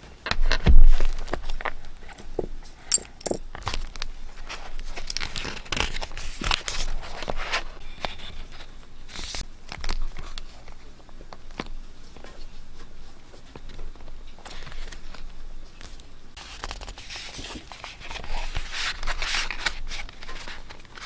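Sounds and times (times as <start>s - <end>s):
paper rustling and crinkling: 3.6s - 21.0s.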